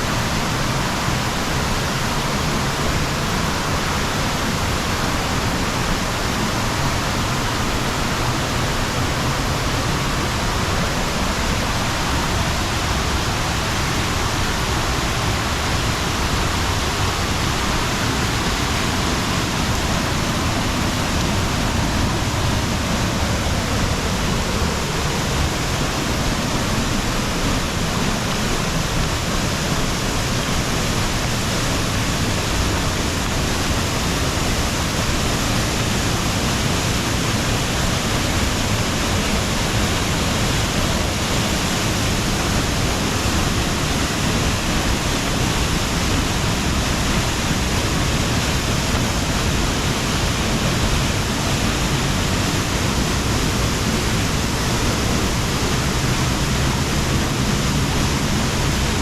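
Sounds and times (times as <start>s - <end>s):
heavy falling water: 0.0s - 59.0s.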